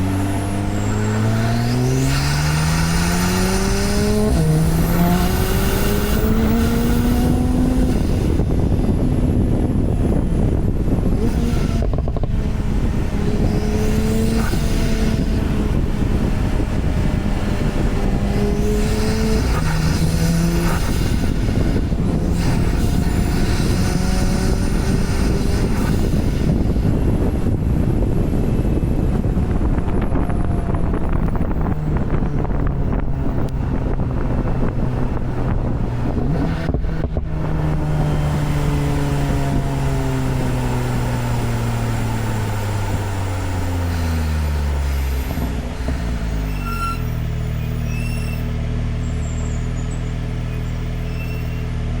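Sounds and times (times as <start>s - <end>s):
car engine driving: 0.0s - 52.0s
road and wind noise: 0.0s - 52.0s.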